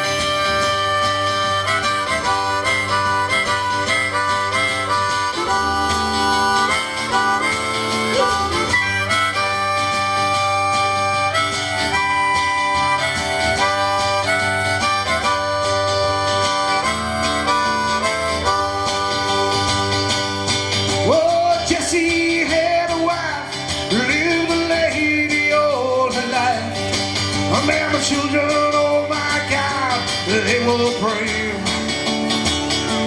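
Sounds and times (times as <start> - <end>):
guitar: 0.0 - 33.0
harmonica playing: 0.0 - 33.0.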